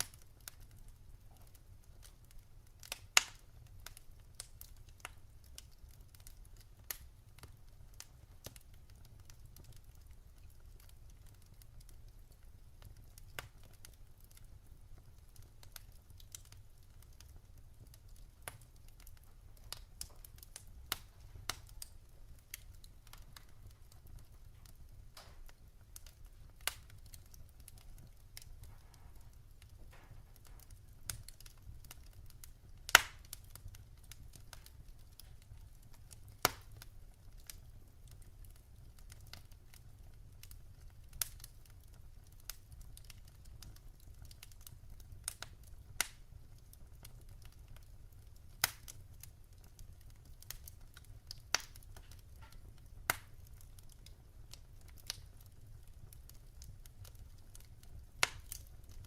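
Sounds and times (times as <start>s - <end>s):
wood fire popping and crackling: 0.0s - 59.0s.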